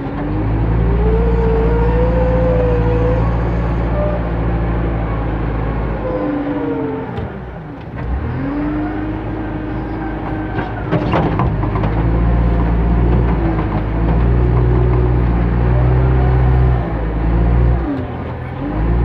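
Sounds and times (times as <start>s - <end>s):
diesel engine working: 0.0s - 19.0s.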